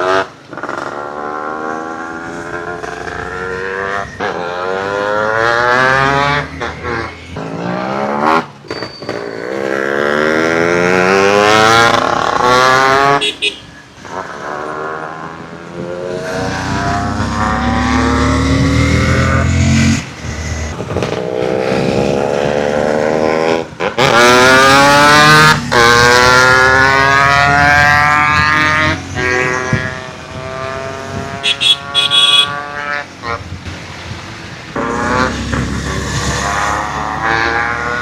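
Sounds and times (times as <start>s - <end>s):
motorcycle accelerating through gears: 0.0s - 38.0s.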